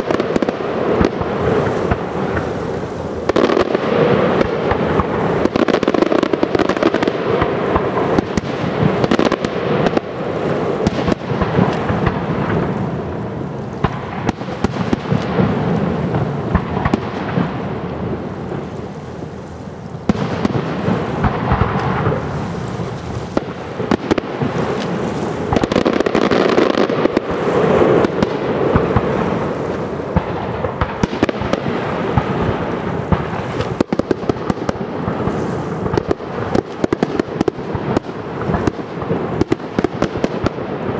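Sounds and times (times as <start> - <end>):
continuous rumble: 0.0 - 40.9
sharp firework cracks: 0.0 - 40.9.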